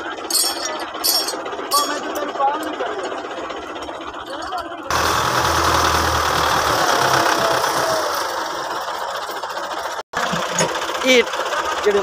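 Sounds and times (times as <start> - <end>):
tractor diesel engine under load: 0.0 - 12.0
wheels churning dirt: 0.0 - 12.0.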